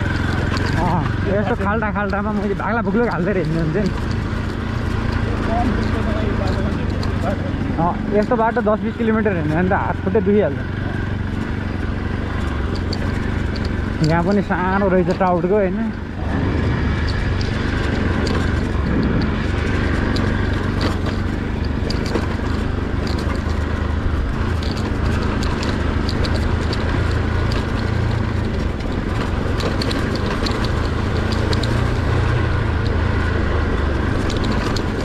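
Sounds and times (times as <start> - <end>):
clicks and rattles: 0.0 - 35.0
motorcycle engine running: 0.0 - 35.0.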